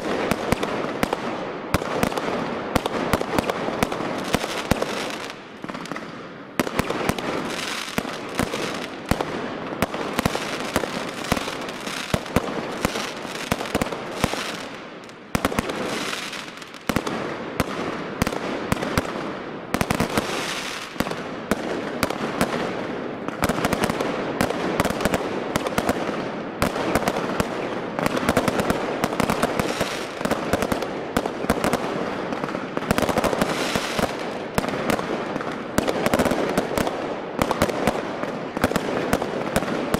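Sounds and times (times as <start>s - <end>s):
fireworks launching and crackling: 0.0s - 39.9s.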